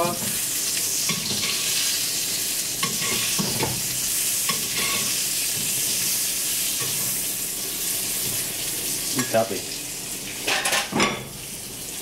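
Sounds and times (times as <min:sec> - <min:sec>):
butter sizzling in pan: 0:00.0 - 0:12.0.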